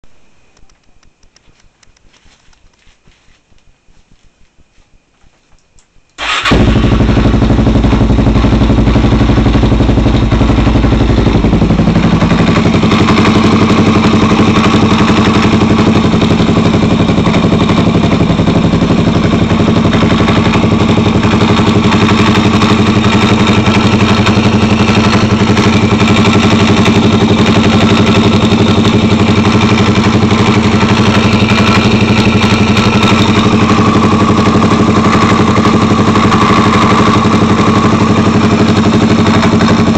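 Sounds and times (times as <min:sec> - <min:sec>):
motorcycle engine idling: 0:06.2 - 0:39.9
engine knock rattle: 0:06.4 - 0:39.9.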